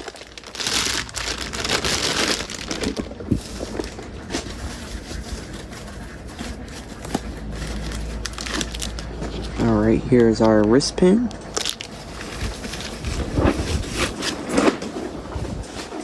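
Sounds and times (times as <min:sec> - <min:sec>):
plastic packaging crinkling: 0:00.0 - 0:09.7, 0:10.6 - 0:16.0.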